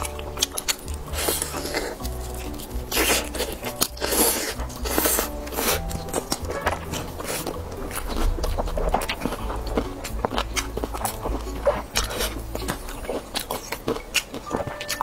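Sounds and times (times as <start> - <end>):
biting and chewing fried chicken: 0.0 - 15.0.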